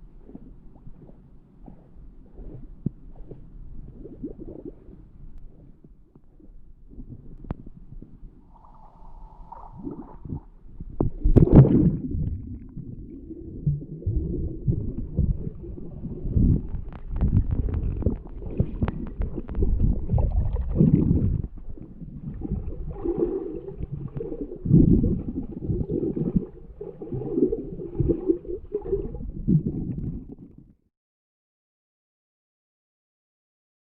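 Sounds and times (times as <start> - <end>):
muffled underwater rumbling and gurgling: 0.0 - 30.8.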